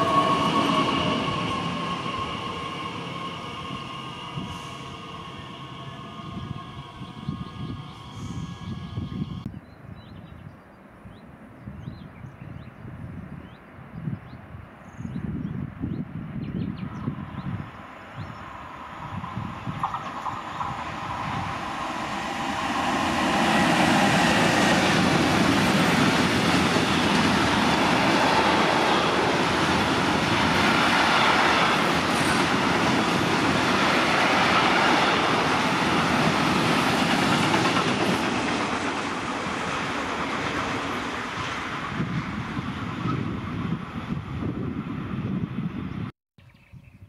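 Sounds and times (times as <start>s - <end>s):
freight train rumbling past: 0.0s - 9.5s, 16.8s - 46.1s.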